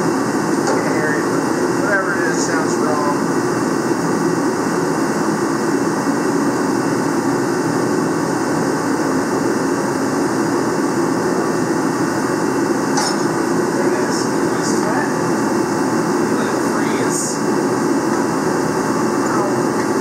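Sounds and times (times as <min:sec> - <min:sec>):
mechanical drone with rushing hiss: 0:00.0 - 0:20.0.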